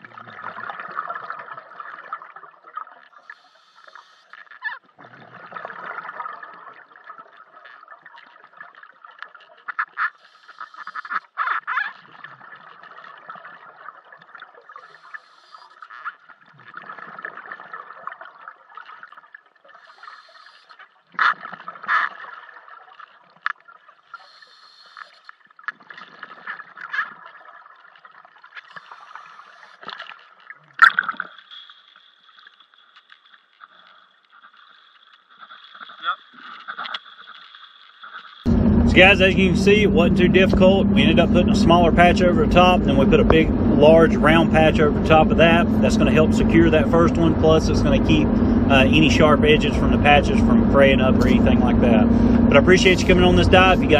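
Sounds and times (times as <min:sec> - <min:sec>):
underwater bubbling and gurgling: 0:00.0 - 0:53.9.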